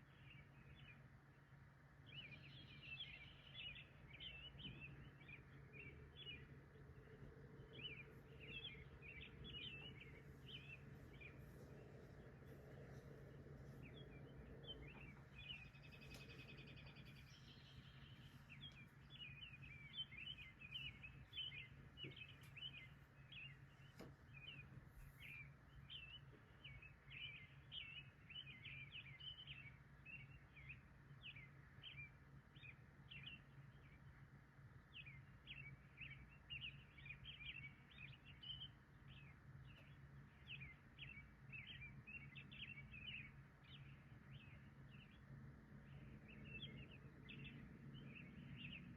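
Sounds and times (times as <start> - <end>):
birds chirping: 0.0 - 48.9
steady low hum: 0.0 - 48.9.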